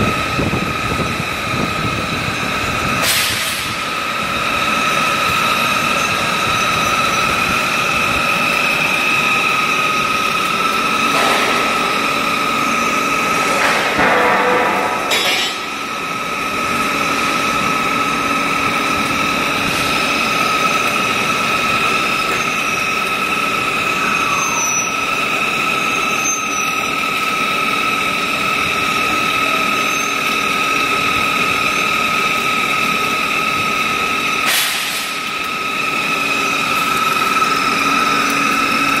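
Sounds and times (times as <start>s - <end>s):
peeling machine whine and hum: 0.0s - 39.0s.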